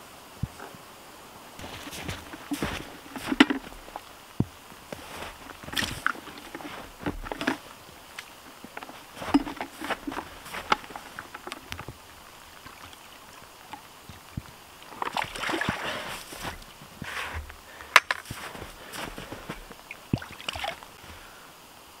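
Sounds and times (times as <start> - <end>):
water splashing and gurgling: 1.6 - 21.2
footsteps crunching in snow: 1.6 - 21.4.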